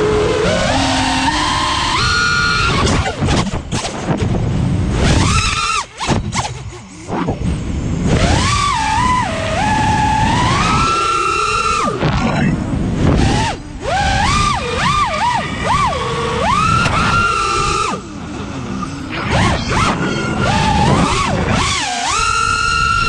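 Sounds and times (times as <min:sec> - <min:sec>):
drone motors whining: 0:00.0 - 0:23.0
wind rush on microphone: 0:00.0 - 0:23.0.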